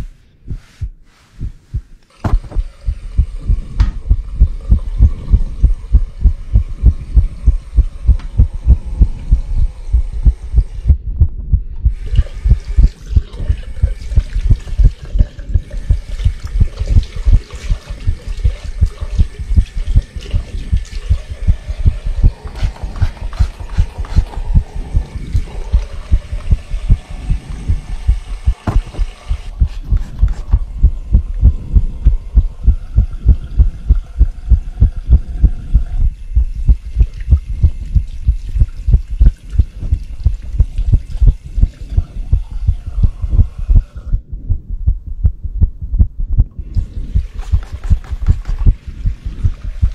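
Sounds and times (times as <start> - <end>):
heartbeat thumps: 0.0 - 49.9.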